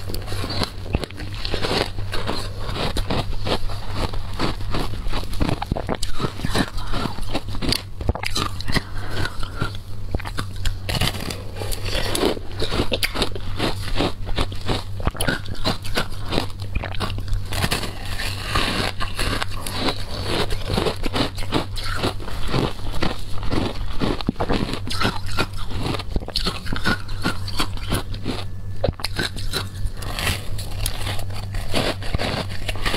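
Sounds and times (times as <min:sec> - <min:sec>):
ice crunching while chewed: 0:00.0 - 0:32.9.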